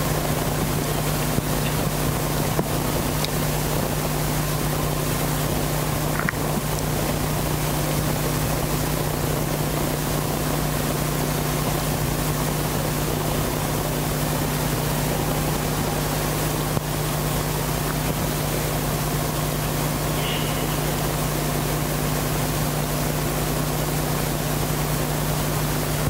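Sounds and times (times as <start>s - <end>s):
low hum: 0.0s - 24.4s
even hiss: 0.0s - 26.0s.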